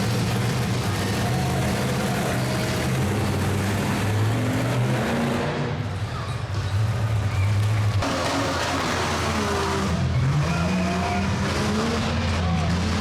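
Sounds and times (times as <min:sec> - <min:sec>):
large vehicle engine rumbling: 0:00.0 - 0:13.0.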